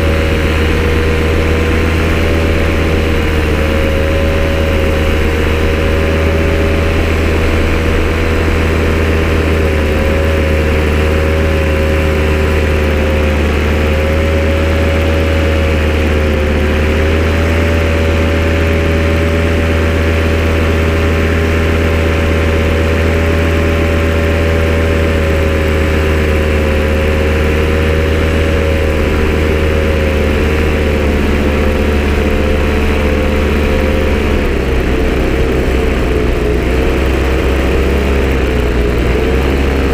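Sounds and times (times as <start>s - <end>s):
loud engine idling: 0.0s - 39.9s.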